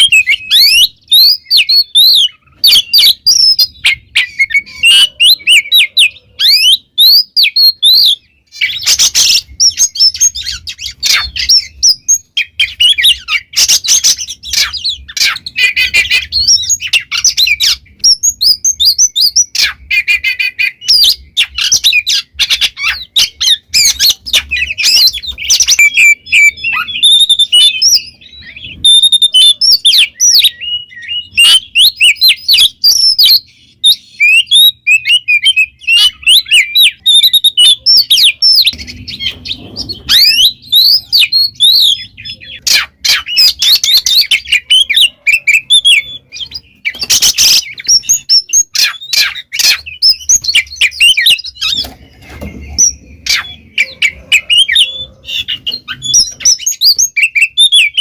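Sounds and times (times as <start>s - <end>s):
magpie-robin singing: 0.0s - 58.0s.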